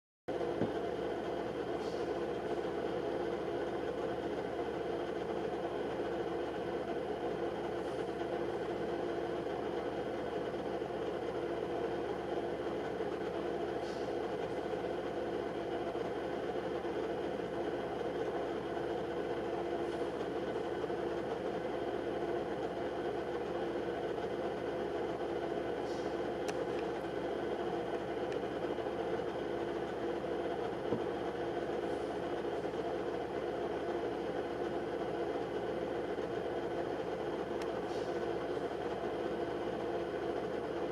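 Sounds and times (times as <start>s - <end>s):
mechanical hum: 0.3s - 40.9s.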